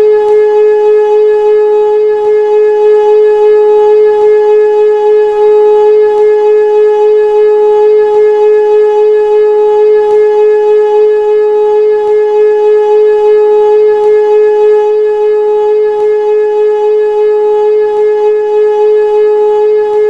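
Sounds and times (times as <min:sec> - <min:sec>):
civil defence siren steady tone: 0:00.0 - 0:20.0.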